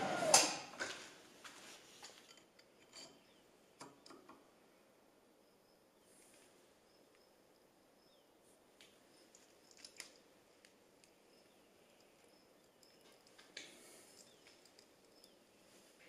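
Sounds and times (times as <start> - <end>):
faint high steady whine: 0.0 - 16.0.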